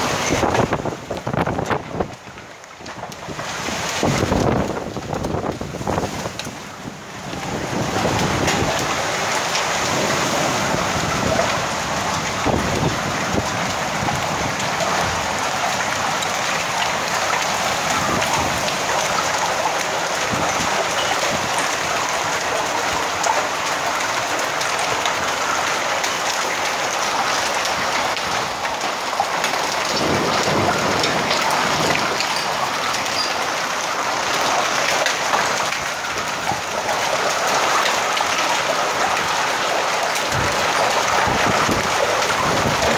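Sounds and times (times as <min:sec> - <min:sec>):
heavy rain and hail: 0:00.0 - 0:42.9.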